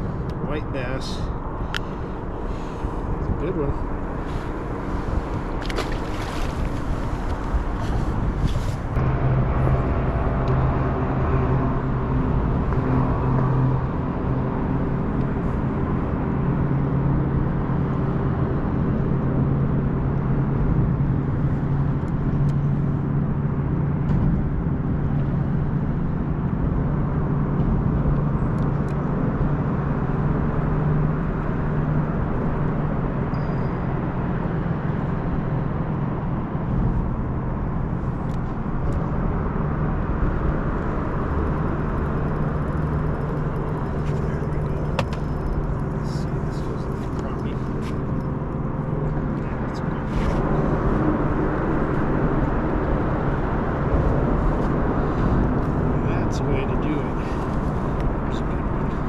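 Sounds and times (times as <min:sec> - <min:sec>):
traffic rumble on bridge: 0:00.0 - 0:59.0.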